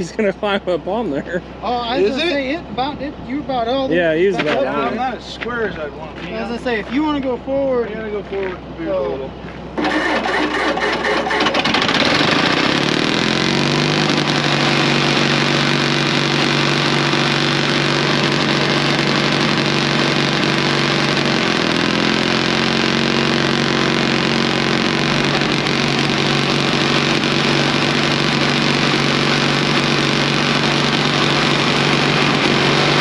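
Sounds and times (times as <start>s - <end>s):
dozer engine starting and running: 0.9s - 33.0s.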